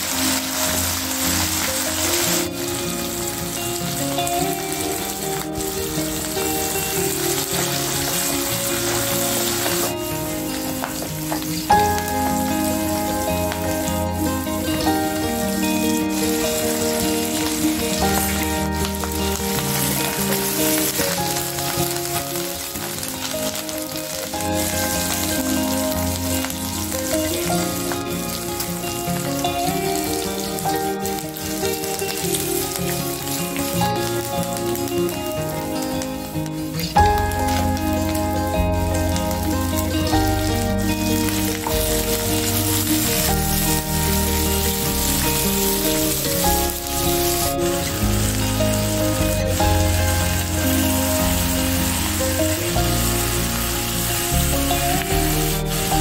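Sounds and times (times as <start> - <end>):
background music: 0.0 - 56.0
oil sizzling: 0.0 - 56.0.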